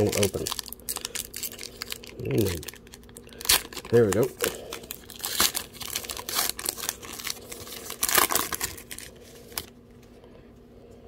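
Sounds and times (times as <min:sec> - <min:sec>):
card pack wrapper crinkling: 0:00.0 - 0:09.7.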